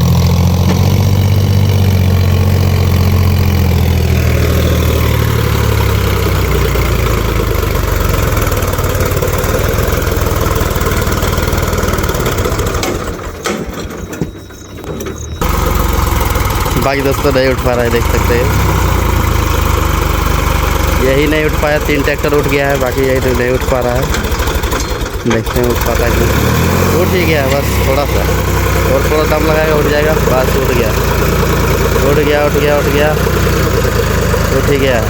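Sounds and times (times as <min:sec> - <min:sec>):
tractor diesel engine straining: 0:00.0 - 0:35.0.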